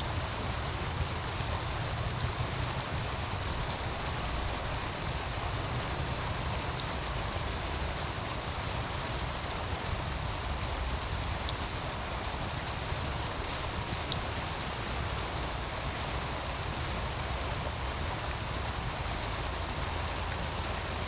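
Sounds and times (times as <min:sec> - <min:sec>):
stream rushing: 0:00.0 - 0:21.0
wood fire crackling: 0:00.0 - 0:21.0.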